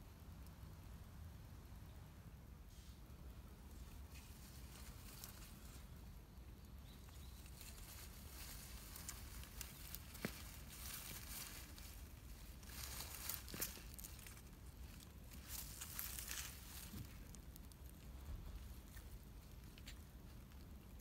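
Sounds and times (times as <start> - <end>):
faint outdoor background hiss: 0.0 - 21.0.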